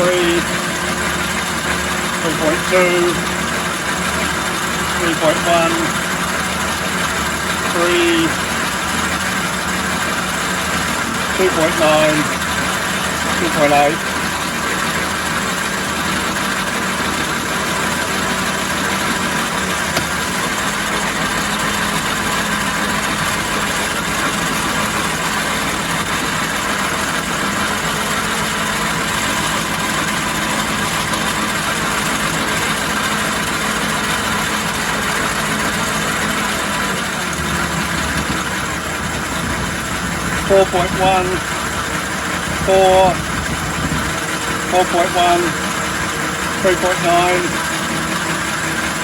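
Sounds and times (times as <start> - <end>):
metal lathe running: 0.0 - 49.0.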